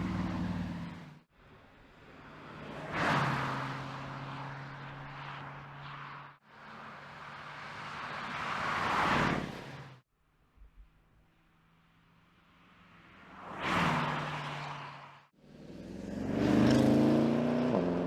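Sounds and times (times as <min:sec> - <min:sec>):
road noise: 0:00.0 - 0:10.1, 0:11.3 - 0:18.0.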